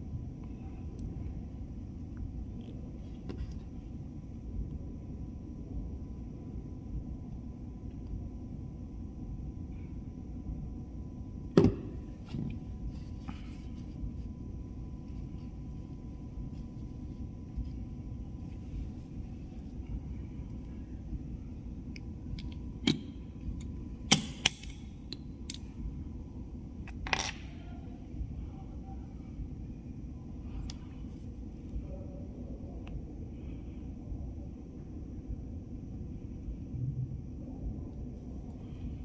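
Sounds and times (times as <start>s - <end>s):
steady low rumble: 0.0s - 39.0s.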